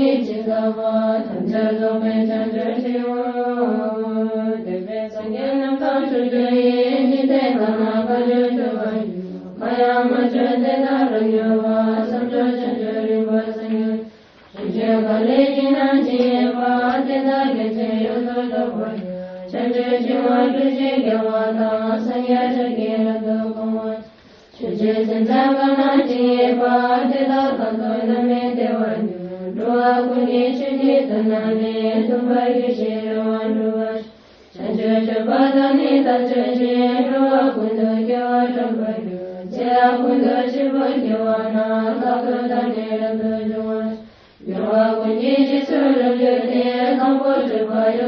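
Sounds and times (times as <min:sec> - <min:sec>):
mantra chanting: 0:00.0 - 0:48.0.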